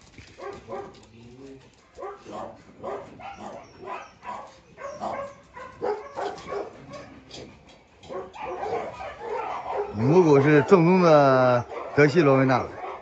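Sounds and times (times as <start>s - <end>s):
dogs barking: 0.3s - 1.1s, 1.8s - 13.0s.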